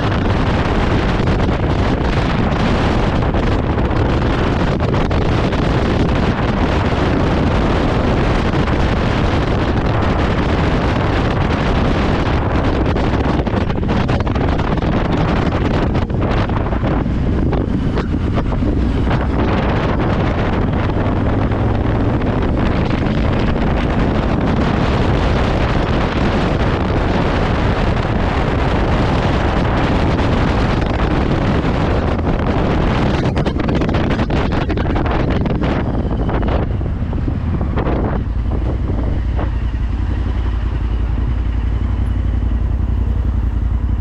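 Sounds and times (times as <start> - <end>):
motorcycle engine: 0.0 - 44.0
wind rushing over microphone: 0.0 - 44.0.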